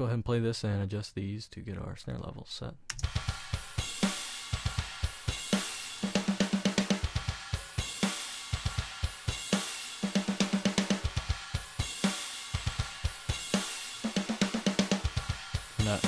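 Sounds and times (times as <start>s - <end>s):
drum kit beat: 2.9s - 16.0s
snare drum fill: 3.0s - 16.0s.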